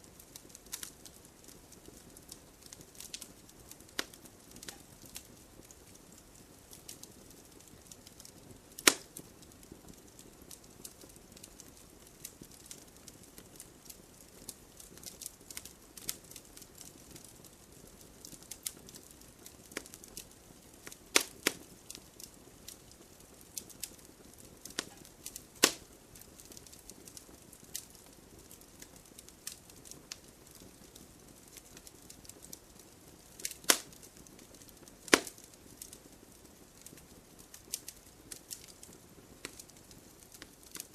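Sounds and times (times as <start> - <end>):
fireplace fire crackling: 0.0 - 40.9
sharp pops from fire: 0.0 - 40.9.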